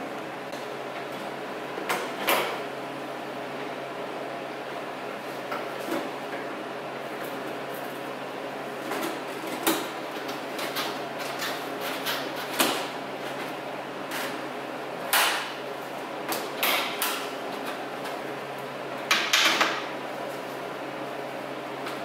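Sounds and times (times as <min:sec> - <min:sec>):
steady low hum: 0:00.0 - 0:19.1.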